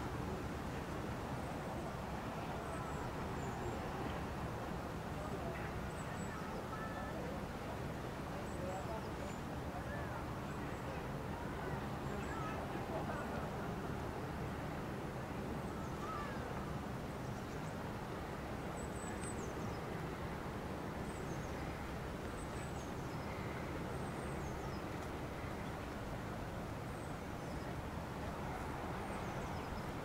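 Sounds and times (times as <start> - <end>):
distant traffic hum: 0.0 - 30.0.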